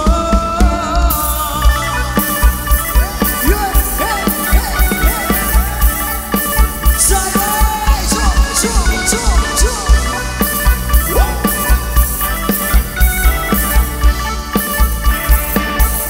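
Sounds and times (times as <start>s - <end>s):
live dance band music: 0.0s - 16.0s
pitch-bending melody line: 1.0s - 16.0s
steady kick drum beat: 2.4s - 16.0s.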